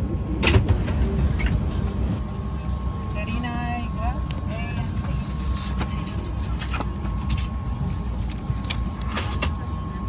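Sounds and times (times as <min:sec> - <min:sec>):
aircraft cabin air system rumble: 0:00.0 - 0:10.0
thin steady whine: 0:00.0 - 0:10.0.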